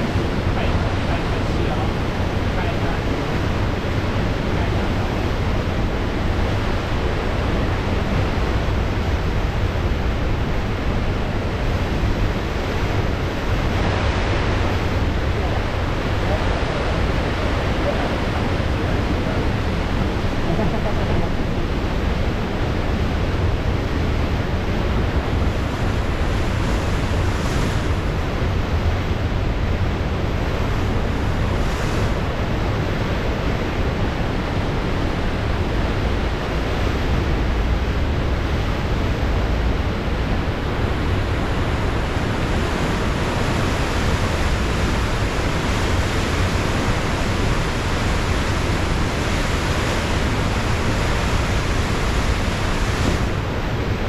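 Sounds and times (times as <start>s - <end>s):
ocean waves: 0.0s - 54.0s.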